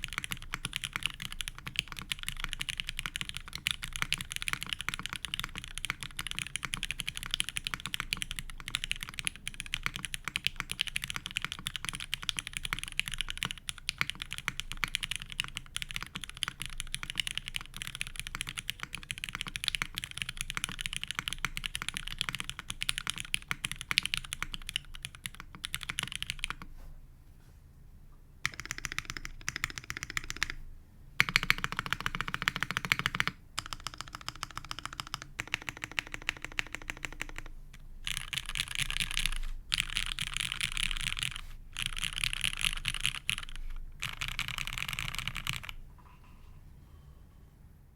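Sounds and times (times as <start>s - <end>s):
mechanical keyboard typing: 0.0s - 26.7s, 28.4s - 30.6s, 31.2s - 45.8s.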